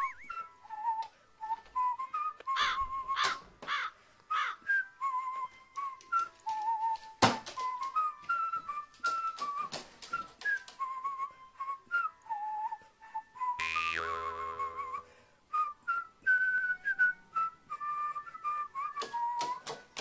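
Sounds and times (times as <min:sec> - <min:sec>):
whistled melody music: 0:00.0 - 0:20.0.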